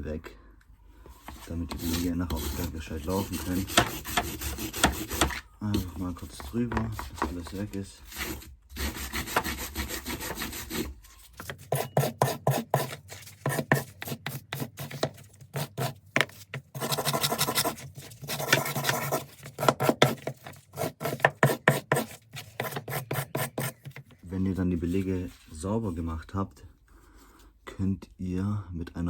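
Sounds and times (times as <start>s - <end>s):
wire brush scraping brake pads: 1.2s - 25.6s.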